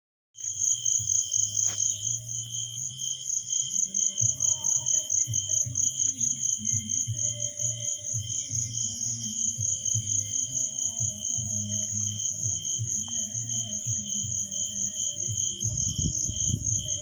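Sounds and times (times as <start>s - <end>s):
insects chirping: 0.4s - 17.0s.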